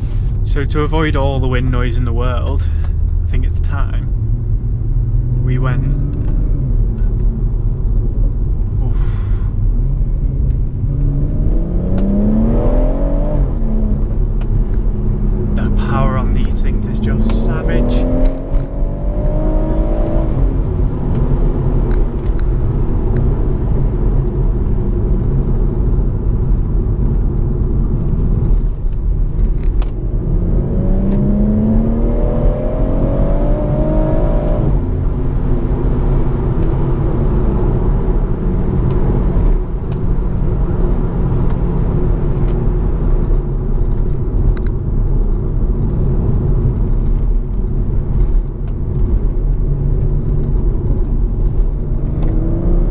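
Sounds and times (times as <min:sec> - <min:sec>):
car engine and road drone: 0:00.0 - 0:52.9.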